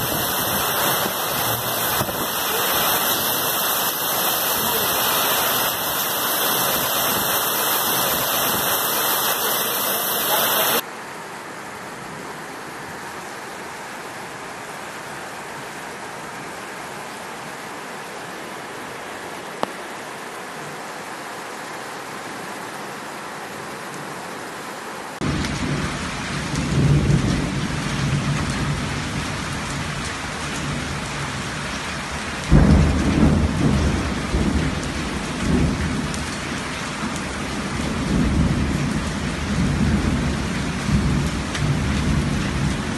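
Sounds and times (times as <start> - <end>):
rain and hail pelting patio: 0.0 - 10.9, 18.8 - 42.9.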